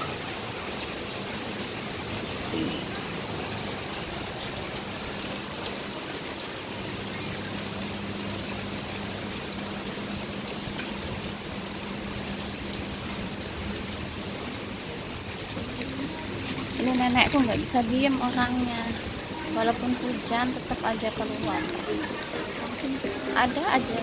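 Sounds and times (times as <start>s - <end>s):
raindrops ticking close by: 0.0s - 24.0s
steady rain hiss: 0.0s - 24.0s.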